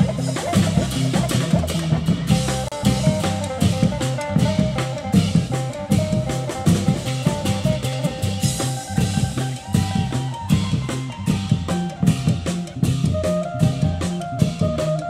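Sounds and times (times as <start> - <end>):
drum kit beat: 0.0 - 15.0
walking bass line: 0.0 - 15.0
sustained high melody: 2.8 - 15.0.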